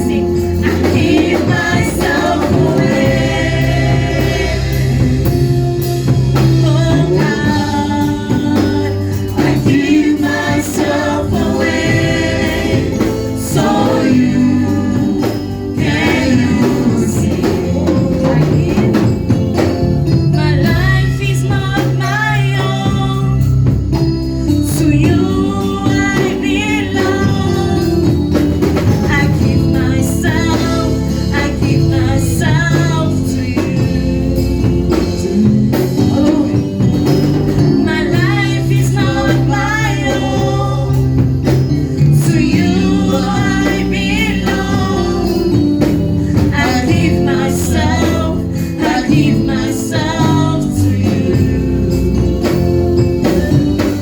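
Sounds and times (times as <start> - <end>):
voices singing: 0.0 - 23.8, 24.6 - 54.0
band with bass and percussion: 0.0 - 54.0.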